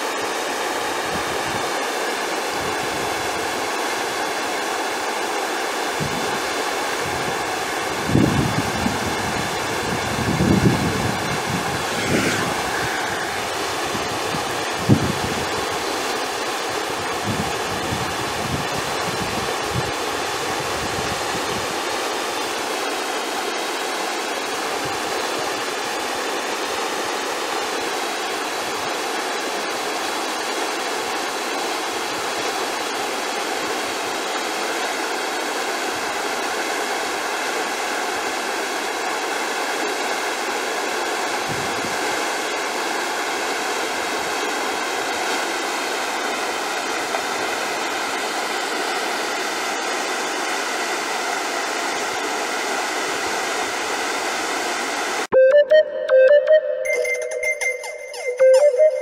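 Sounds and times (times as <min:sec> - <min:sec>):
whitewater rapids rushing: 0:00.0 - 0:55.3.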